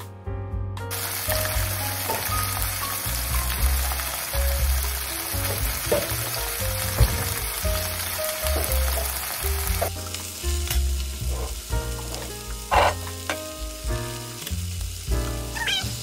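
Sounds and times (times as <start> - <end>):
chicken sizzling in frying pan: 0.9 - 16.0.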